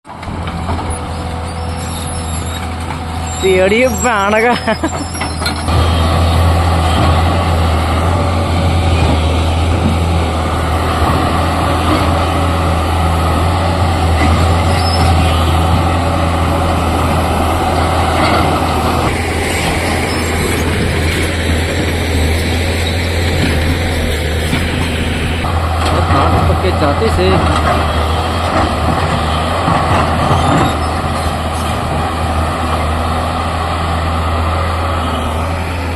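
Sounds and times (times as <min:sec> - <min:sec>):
diesel engine humming: 0:00.1 - 0:35.9.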